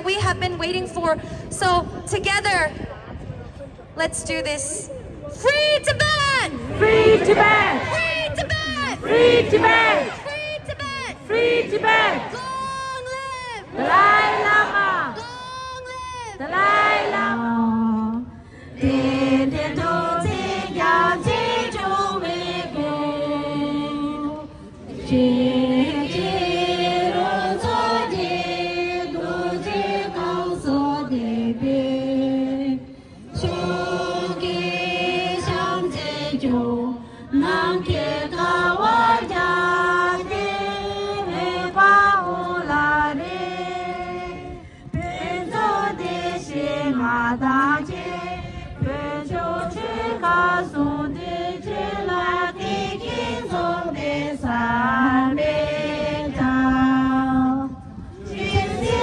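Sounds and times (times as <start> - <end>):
crowd singing together: 6.6 - 59.0.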